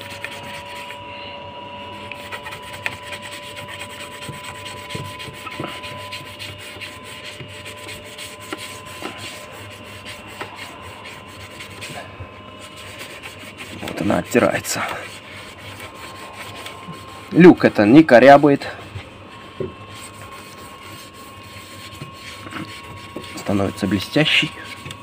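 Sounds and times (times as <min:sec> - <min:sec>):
sponge scrubbing glass: 0:02.1 - 0:18.6, 0:19.3 - 0:25.0.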